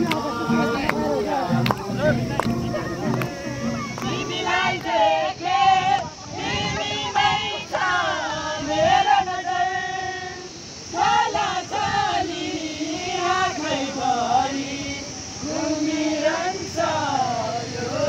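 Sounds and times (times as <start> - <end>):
woman singing long held notes: 2.7 - 18.0.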